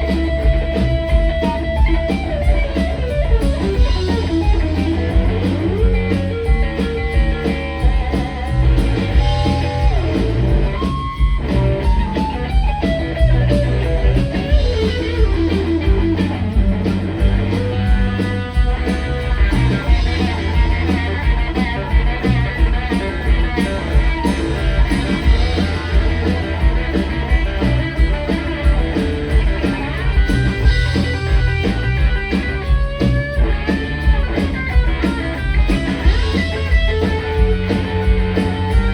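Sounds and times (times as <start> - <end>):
bass guitar: 0.0 - 38.9
drum kit: 0.0 - 38.9
electric guitar solo: 0.0 - 38.9.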